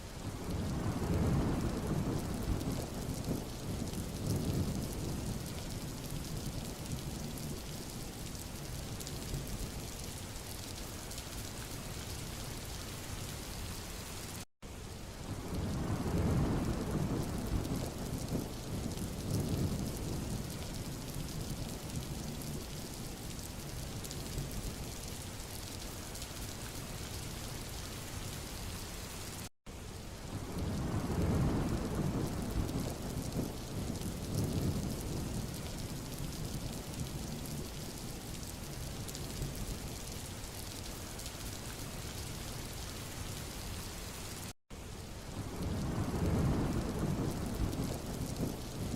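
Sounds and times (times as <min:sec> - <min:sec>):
rain on a road: 0:00.0 - 0:48.9.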